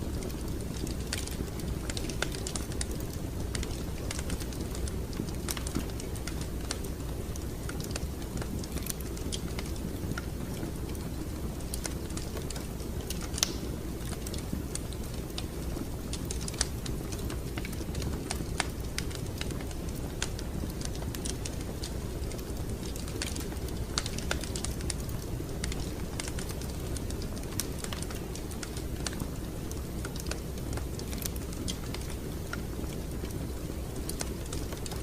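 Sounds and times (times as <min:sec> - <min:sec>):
fire crackling and popping: 0:00.0 - 0:35.0
low fire rumble: 0:00.0 - 0:35.0.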